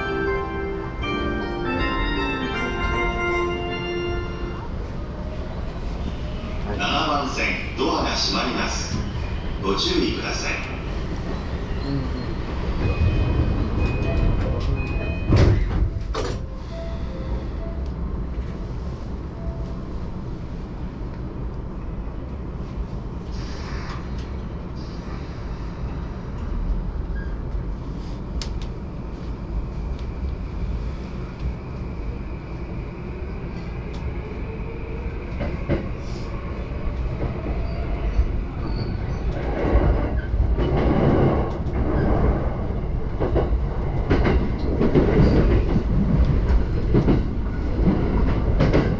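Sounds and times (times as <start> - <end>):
train low rumble: 0.0 - 48.9.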